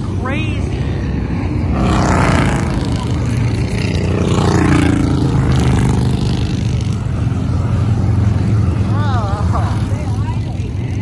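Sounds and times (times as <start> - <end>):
motorcycles passing by: 0.0 - 11.0.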